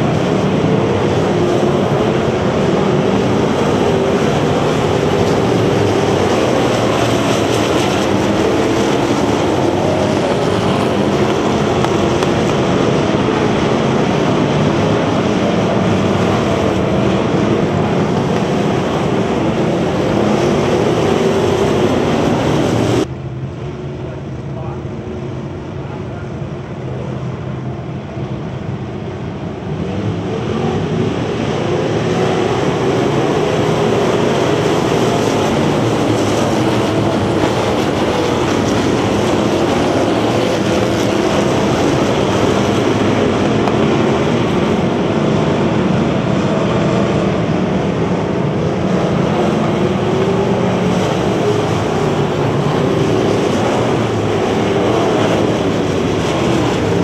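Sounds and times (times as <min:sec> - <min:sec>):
stock car engines racing: 0:00.0 - 0:57.0.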